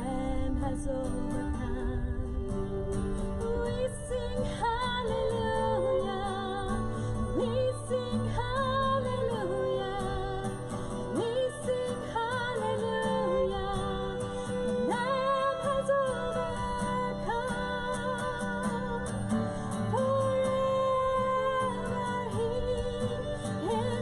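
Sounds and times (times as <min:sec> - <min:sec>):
acoustic guitar: 0:00.0 - 0:24.0
violin: 0:00.0 - 0:24.0
woman singing: 0:00.0 - 0:24.0.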